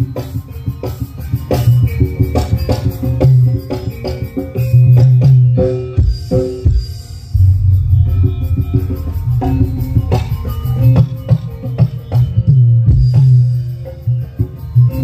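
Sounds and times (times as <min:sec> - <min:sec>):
loud music with drums and bass: 0:00.0 - 0:15.0.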